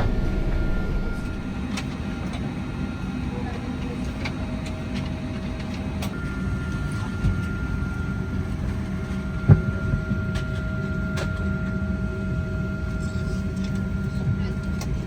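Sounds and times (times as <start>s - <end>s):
cabin air hum: 0.0s - 15.0s
thin steady whine: 0.0s - 15.0s.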